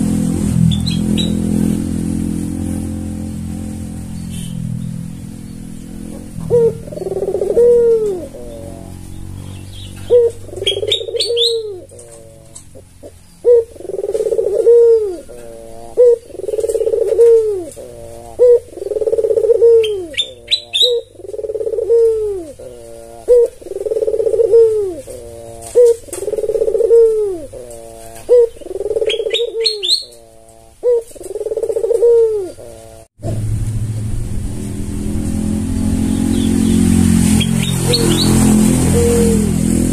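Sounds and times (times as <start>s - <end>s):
dove cooing: 0.0s - 33.1s, 36.2s - 39.9s.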